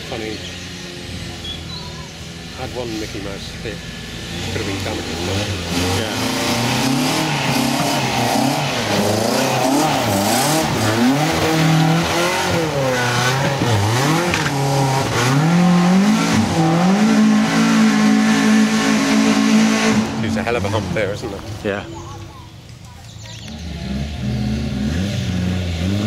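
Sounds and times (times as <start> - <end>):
car engine revving hard: 0.0 - 21.6, 23.6 - 26.0.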